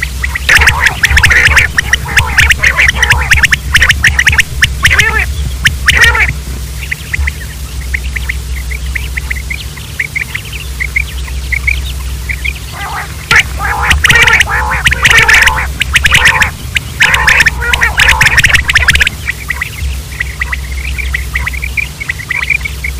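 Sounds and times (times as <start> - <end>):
quails calling: 0.0 - 22.9.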